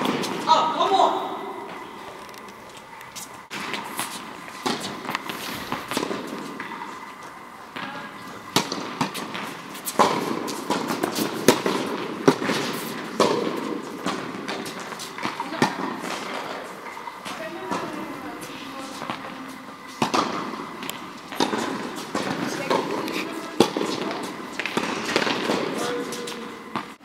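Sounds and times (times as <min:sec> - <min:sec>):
tennis balls bouncing on court: 0:00.0 - 0:00.9, 0:03.5 - 0:27.0
tennis balls struck by rackets: 0:00.0 - 0:00.9, 0:03.5 - 0:27.0.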